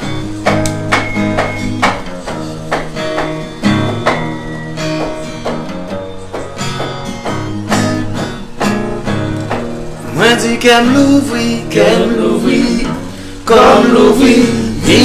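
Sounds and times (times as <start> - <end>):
guitar strummed chords: 0.0 - 15.0.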